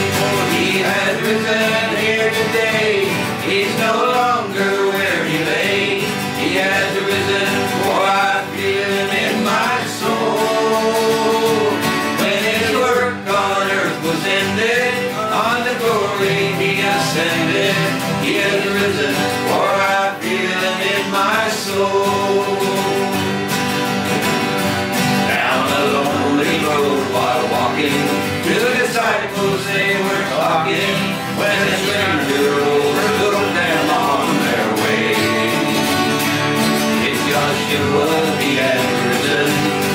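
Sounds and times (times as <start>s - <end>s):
acoustic guitars strumming: 0.0s - 39.9s
men singing in harmony: 0.0s - 39.9s.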